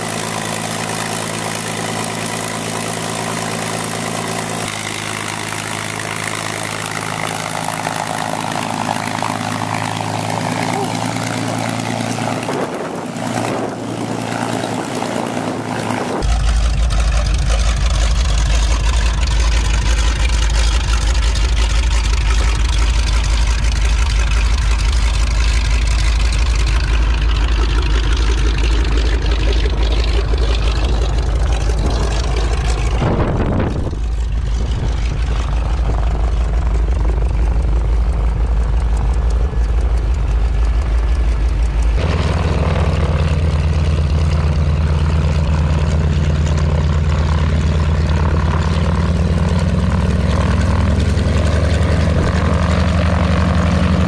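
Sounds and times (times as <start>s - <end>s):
aircraft engine running: 0.0s - 54.0s
radial engine pulsing: 0.0s - 54.0s.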